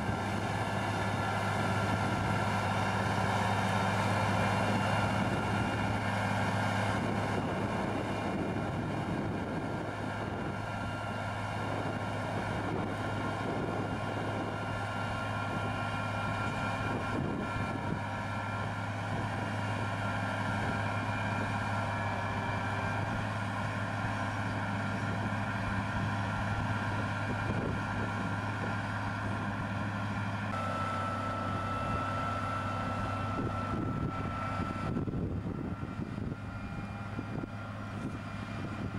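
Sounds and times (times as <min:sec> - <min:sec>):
tractor engine humming: 0:00.0 - 0:38.9.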